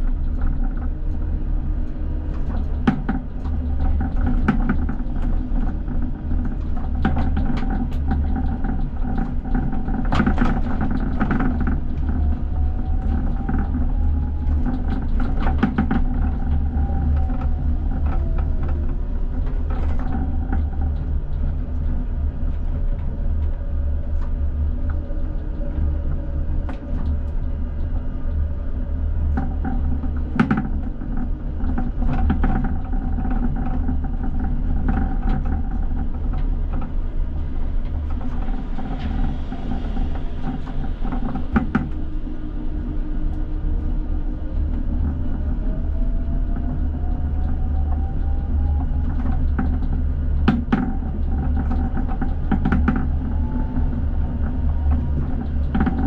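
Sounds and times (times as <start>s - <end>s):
tram wheels rumbling on rail: 0.0s - 56.0s.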